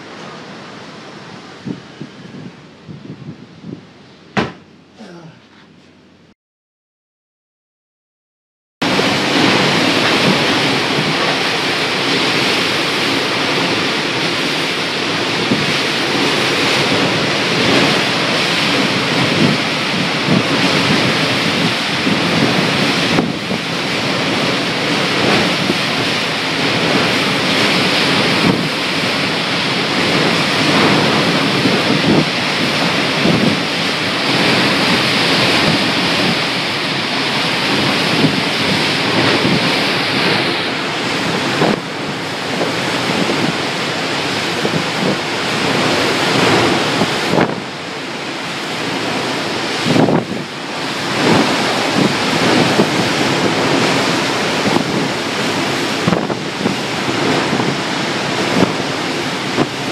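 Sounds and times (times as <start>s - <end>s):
wind buffeting microphone: 0.0s - 4.8s, 8.8s - 59.9s
wind and heavy rain: 0.0s - 5.4s, 8.8s - 59.9s.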